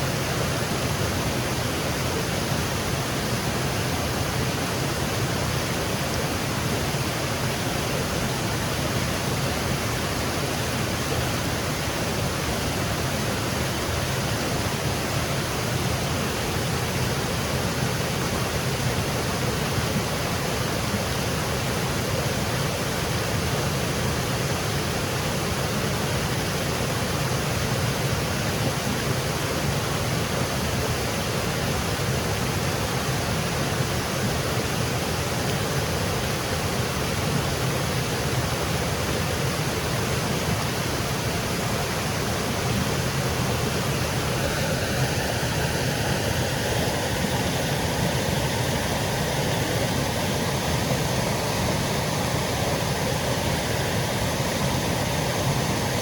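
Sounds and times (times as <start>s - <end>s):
waterfall cascading: 0.0s - 56.0s.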